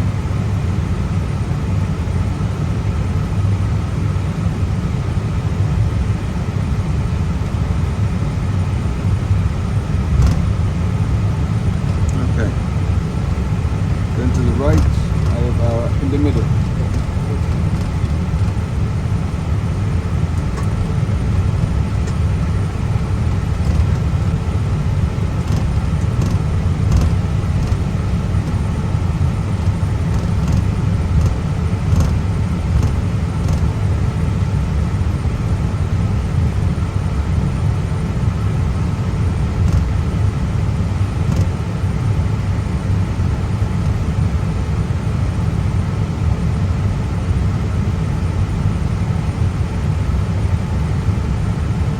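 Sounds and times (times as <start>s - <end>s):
aircraft cockpit low rumble: 0.0s - 51.9s
faint hum: 0.0s - 51.9s.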